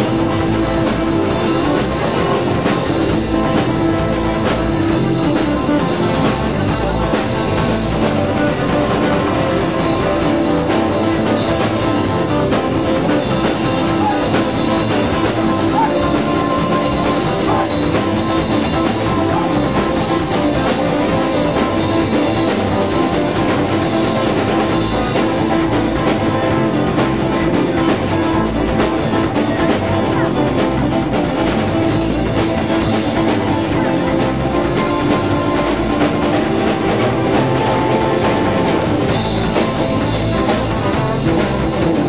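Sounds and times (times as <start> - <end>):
drum kit: 0.0 - 42.0
guitar: 0.0 - 42.0
live rock band playing: 0.0 - 42.0.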